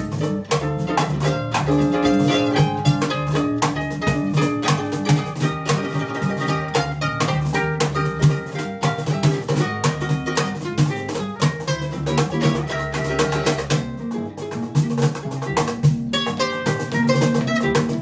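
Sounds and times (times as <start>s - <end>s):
hand-drummed cajon beat: 0.0s - 18.0s
plucked double bass: 0.0s - 18.0s
ukulele plucked notes: 0.0s - 18.0s.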